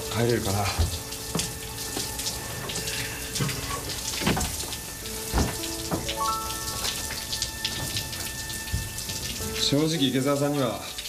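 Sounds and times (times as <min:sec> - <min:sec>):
shower water splashing: 0:00.0 - 0:11.0.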